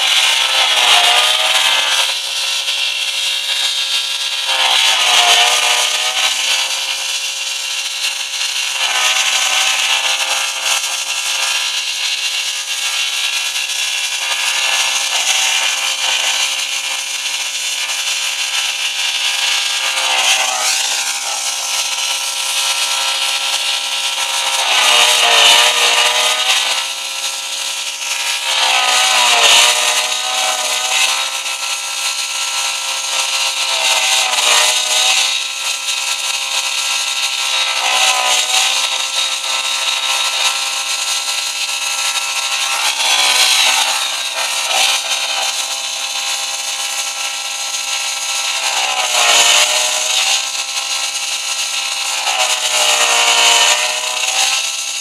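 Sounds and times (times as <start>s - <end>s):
car engine screaming at high revs: 0.0s - 55.0s.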